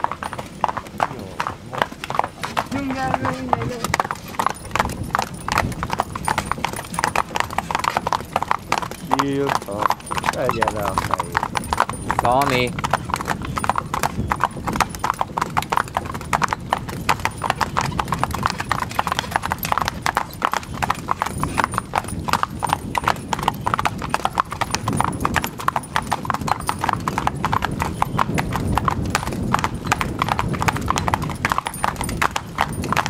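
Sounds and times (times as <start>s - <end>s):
hooves clip-clopping on asphalt: 0.0s - 33.0s.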